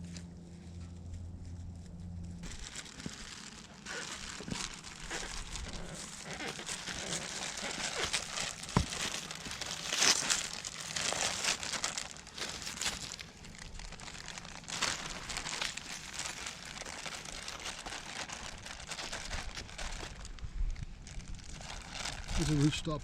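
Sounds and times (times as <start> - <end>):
packaging crinkling and rustling: 1.2 - 23.0.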